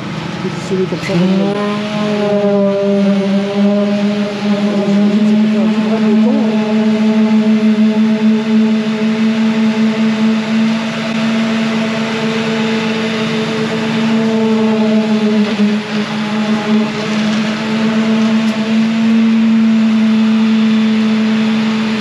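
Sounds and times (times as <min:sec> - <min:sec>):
concrete mixer running: 0:00.0 - 0:22.0.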